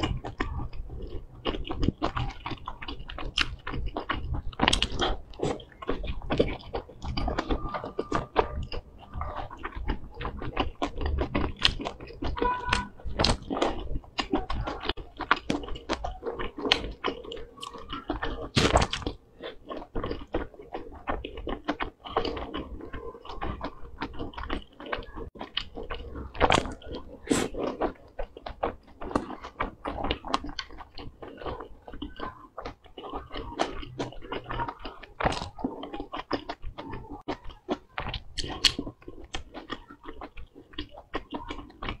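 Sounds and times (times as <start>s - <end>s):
chewing dumplings: 0.0s - 42.0s.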